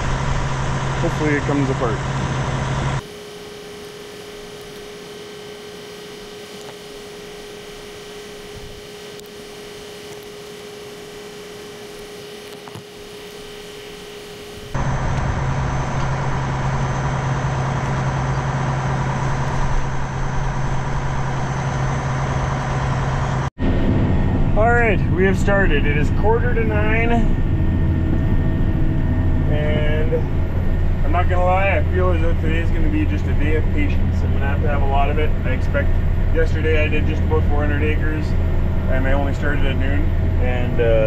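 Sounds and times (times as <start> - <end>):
steady hum with held tone: 0.0 - 41.0
tractor engine droning: 0.0 - 41.0.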